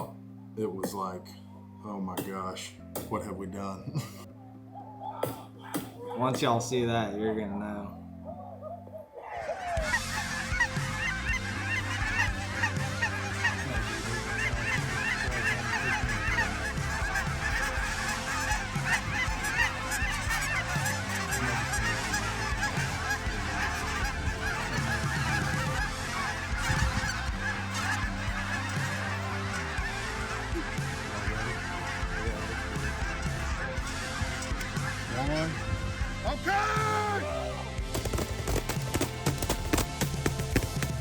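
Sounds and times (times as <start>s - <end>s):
flock of geese honking: 7.6s - 41.0s.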